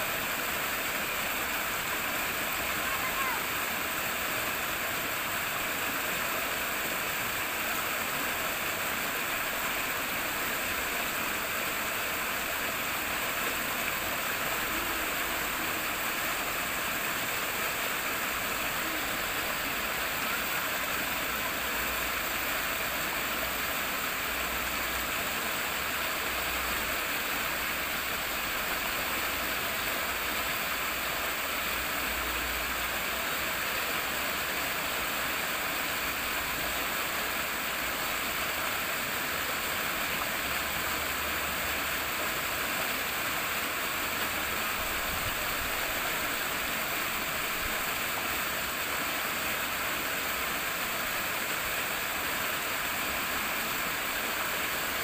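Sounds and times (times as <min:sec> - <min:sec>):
rushing flowing water: 0:00.0 - 0:55.0.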